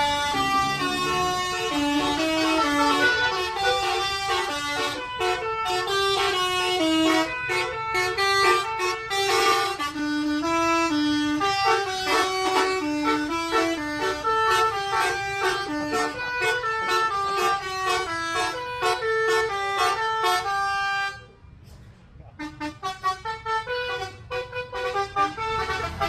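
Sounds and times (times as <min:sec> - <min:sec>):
multi-tone bus horn melody: 0:00.0 - 0:21.4, 0:22.4 - 0:26.0
engine and road rumble: 0:00.0 - 0:26.0.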